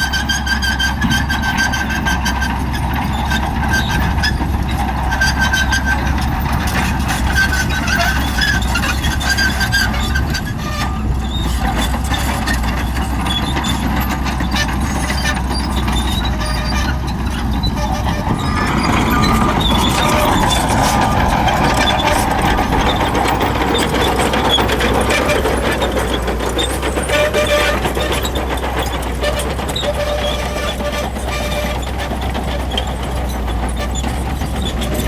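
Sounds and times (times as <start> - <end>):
bulldozer diesel engine: 0.0 - 35.0
steel tracks clanking and squealing: 0.0 - 35.0.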